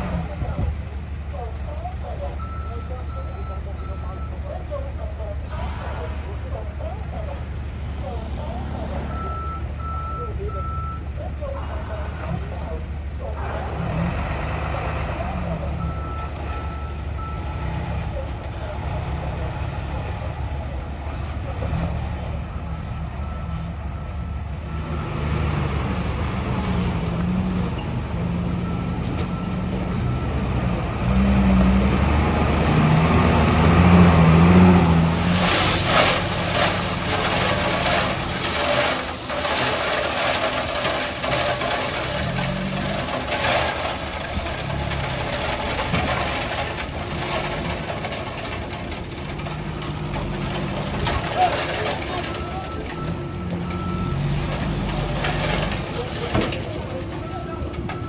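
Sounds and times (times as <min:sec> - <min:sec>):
diesel machinery under load: 0:00.0 - 0:58.0
gravel and metal rattling: 0:00.0 - 0:58.0.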